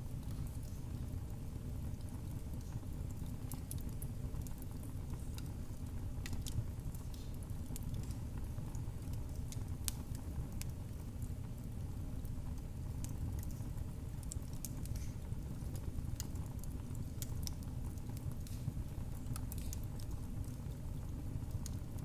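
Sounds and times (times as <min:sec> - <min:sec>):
low rumble of flames: 0:00.0 - 0:22.0
wood fire snapping and popping: 0:00.0 - 0:22.0.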